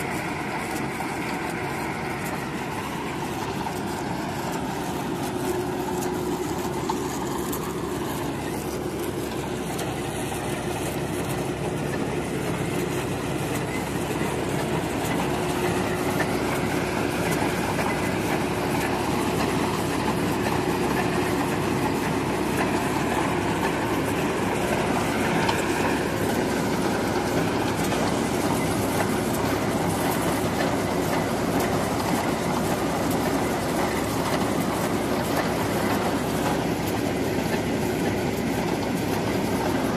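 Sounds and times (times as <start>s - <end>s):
drilling rig running: 0.0s - 39.9s.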